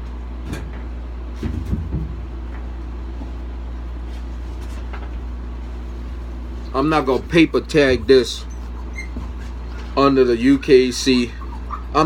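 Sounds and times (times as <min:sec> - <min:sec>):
low machine hum: 0:00.0 - 0:12.0
bumps and rustles of handling: 0:00.4 - 0:12.0.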